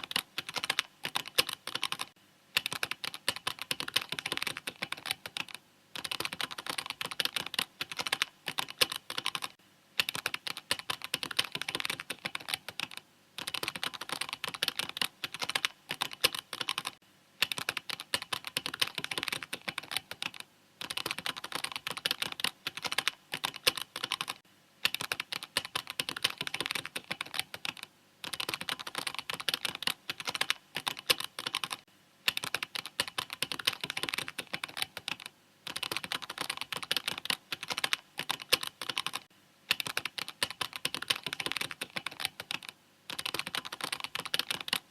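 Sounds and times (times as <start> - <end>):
mechanical keyboard typing: 0.0 - 44.9.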